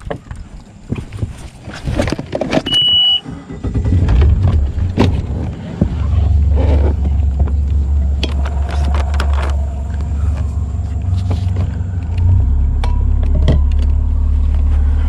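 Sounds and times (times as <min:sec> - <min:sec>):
outboard motor rumbling: 0:02.8 - 0:15.0.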